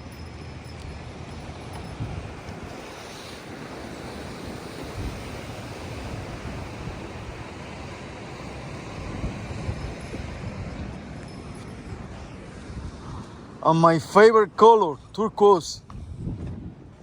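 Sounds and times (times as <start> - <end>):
sea waves washing: 0.0 - 15.8
wind buffeting microphone: 0.0 - 17.0.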